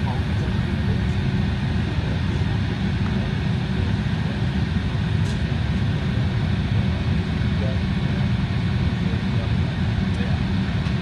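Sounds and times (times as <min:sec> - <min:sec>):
aircraft cabin rumble and air hiss: 0:00.0 - 0:11.0.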